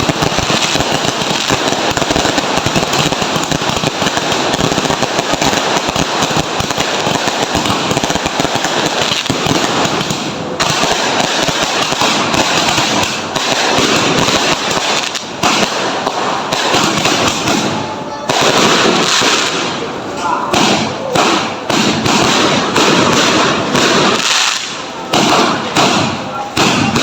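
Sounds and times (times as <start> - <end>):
fireworks crackling pops: 0.0 - 27.0.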